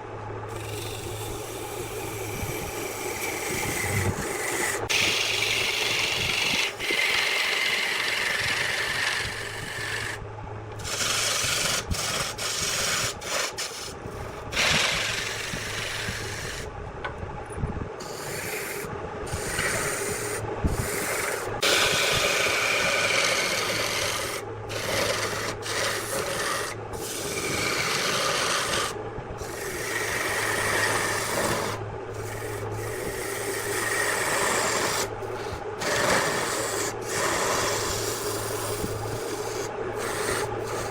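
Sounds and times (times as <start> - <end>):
wood lathe humming: 0.0 - 16.7, 18.0 - 40.9
turning tool scraping wood: 0.5 - 10.2, 10.8 - 16.7, 18.0 - 40.9.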